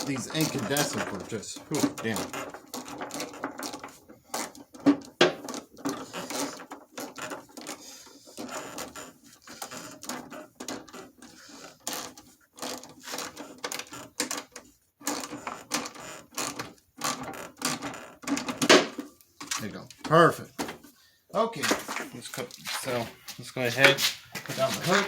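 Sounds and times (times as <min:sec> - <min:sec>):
hand tools clicking and knocking: 0:00.0 - 0:20.8.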